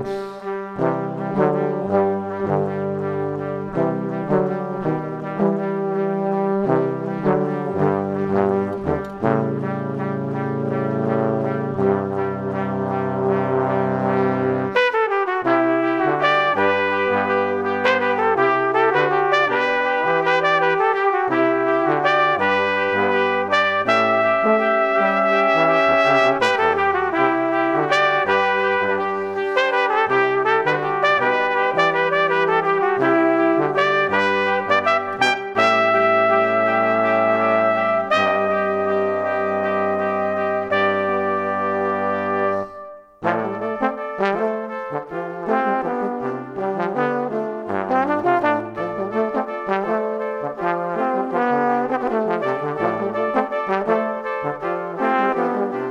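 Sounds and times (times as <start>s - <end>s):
brass band playing slow chords: 0.0s - 55.9s.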